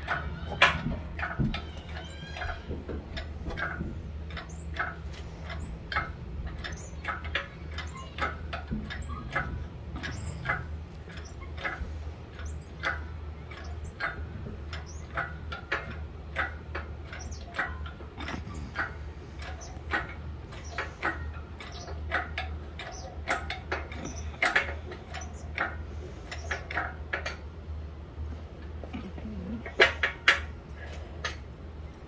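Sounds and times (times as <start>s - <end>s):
chain hoist clicking: 0.0s - 28.0s, 28.6s - 32.0s
steady low hum: 0.0s - 32.0s.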